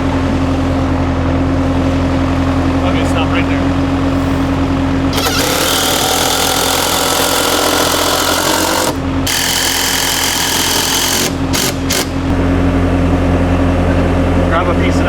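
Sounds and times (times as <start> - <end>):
skid steer engine running: 0.0 - 15.0.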